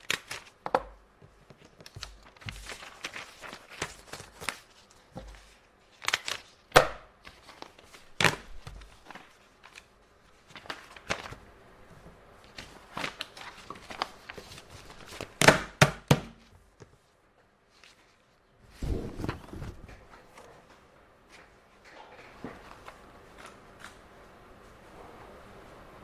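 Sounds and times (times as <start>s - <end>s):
paper and objects handled on desk: 0.1s - 6.5s, 7.2s - 15.6s, 16.4s - 25.0s.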